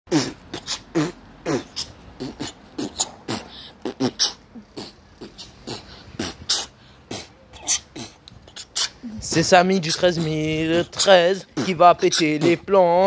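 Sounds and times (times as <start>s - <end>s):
person beatboxing: 0.1s - 13.0s.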